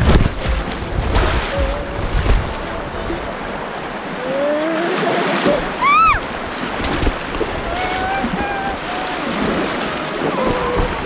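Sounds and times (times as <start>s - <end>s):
wind buffeting microphone: 0.0s - 4.2s, 5.5s - 11.0s
river water rushing: 0.0s - 11.0s.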